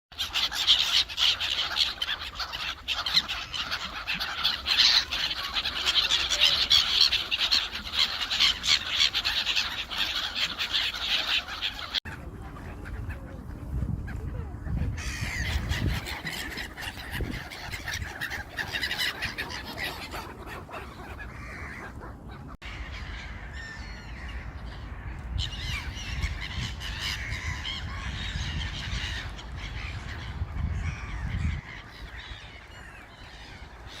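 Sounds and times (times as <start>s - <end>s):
gulls calling and squabbling: 0.1s - 34.0s.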